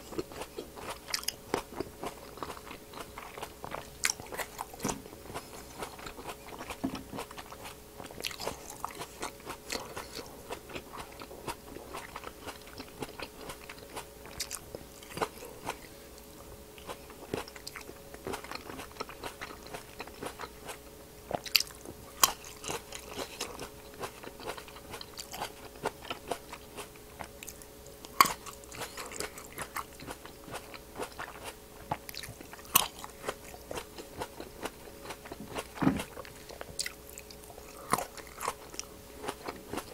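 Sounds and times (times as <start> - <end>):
chewing grapes: 0.0 - 39.9
faint steady hum: 0.0 - 39.9.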